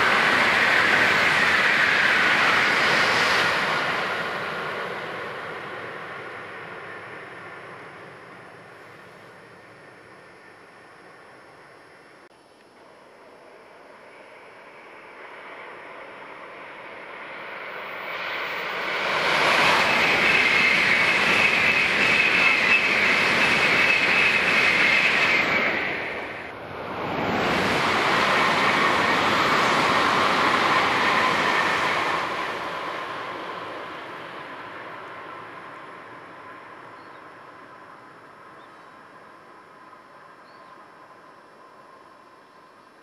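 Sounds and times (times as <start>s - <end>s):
bullet train passing: 0.0s - 12.2s, 12.8s - 43.0s.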